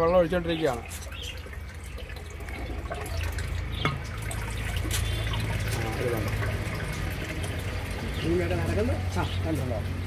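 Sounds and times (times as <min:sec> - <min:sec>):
hose water pouring into tank: 0:00.2 - 0:09.7.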